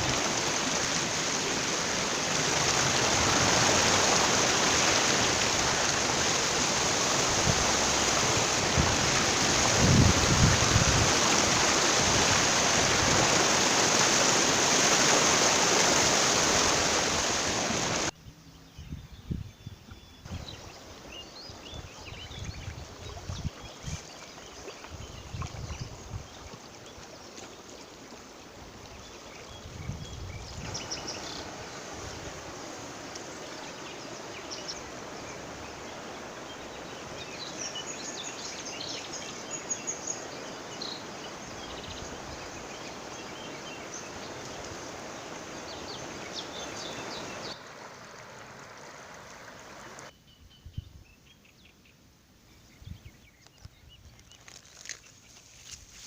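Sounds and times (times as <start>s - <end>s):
water flowing: 0.0s - 18.1s, 20.3s - 50.1s.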